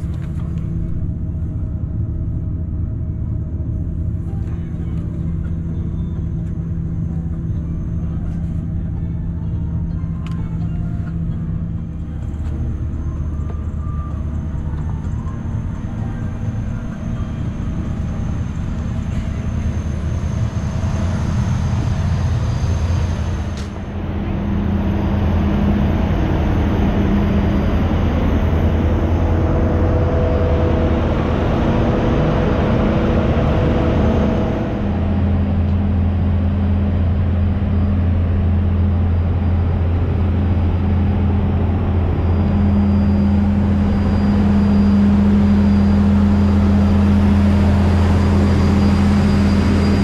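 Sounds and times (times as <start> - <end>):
airport machinery drone: 0.0 - 50.0.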